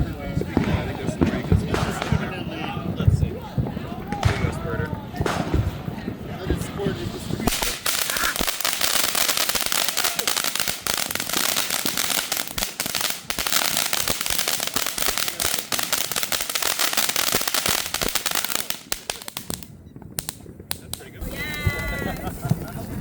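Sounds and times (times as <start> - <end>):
fireworks crackling and popping: 0.0 - 23.0
loud firework bangs: 0.0 - 23.0.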